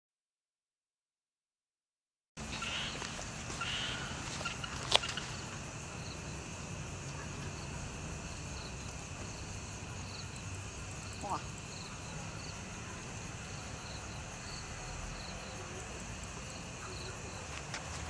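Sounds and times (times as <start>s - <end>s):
crickets chirring: 2.4s - 18.0s.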